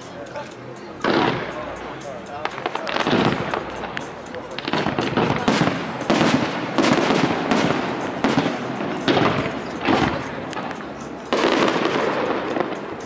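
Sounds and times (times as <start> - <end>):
firework shells bursting: 2.4 - 13.0.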